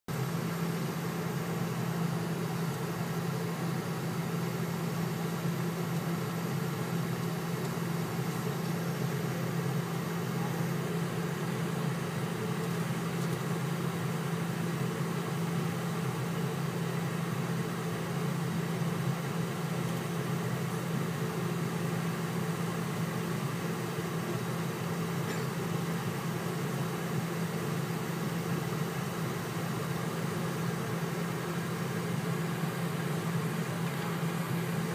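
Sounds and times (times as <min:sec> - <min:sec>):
jet cabin drone and hiss: 0:00.1 - 0:34.9.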